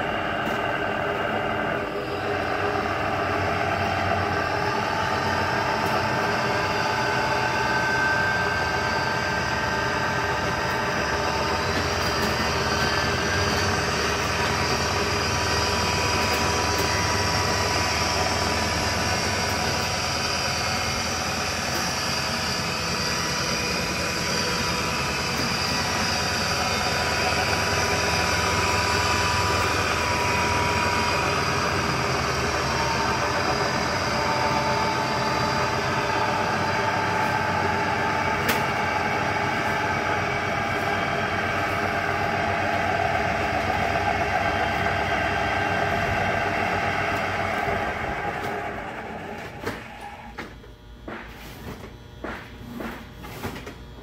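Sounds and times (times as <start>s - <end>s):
drill press motor humming: 0.0s - 51.3s.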